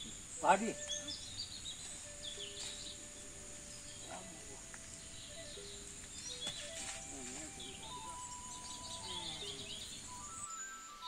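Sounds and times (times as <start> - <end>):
birds chirping: 0.0 - 11.0
high-pitched outdoor hiss: 0.0 - 11.0.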